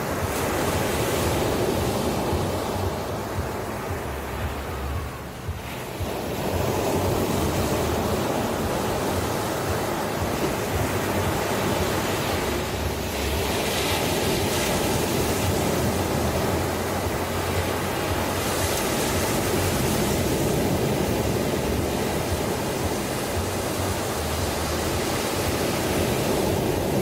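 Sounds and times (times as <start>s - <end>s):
ocean waves breaking on shore: 0.0s - 27.0s.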